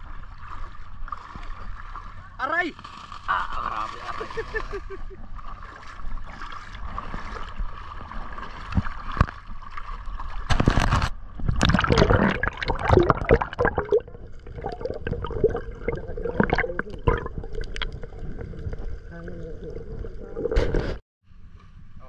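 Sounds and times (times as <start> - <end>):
sea water sloshing and splashing: 0.0 - 21.0.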